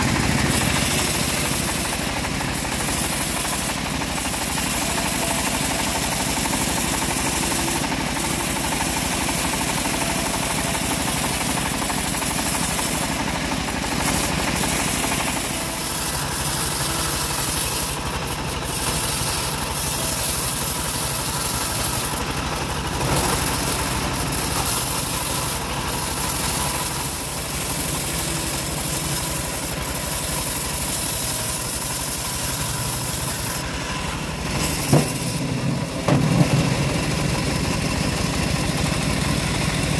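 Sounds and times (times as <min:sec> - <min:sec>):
bandsaw mill blade sawing log: 0:00.0 - 0:39.9
engine pulsing evenly: 0:00.0 - 0:39.9.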